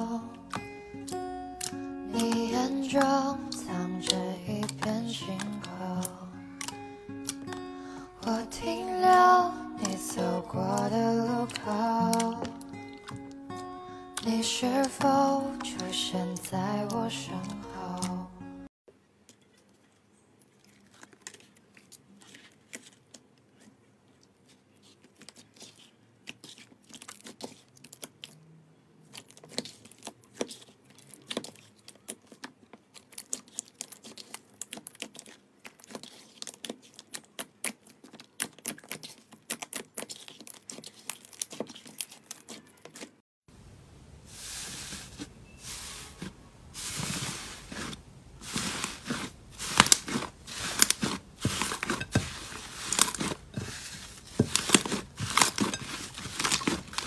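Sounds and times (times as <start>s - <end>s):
slime tearing and crinkling: 0.0s - 7.7s, 8.3s - 18.2s, 20.4s - 28.4s, 29.0s - 43.2s, 44.7s - 57.0s
sticky slime crackles and pops: 0.4s - 7.7s, 8.6s - 18.2s, 20.7s - 28.4s, 29.0s - 43.2s, 46.9s - 57.0s.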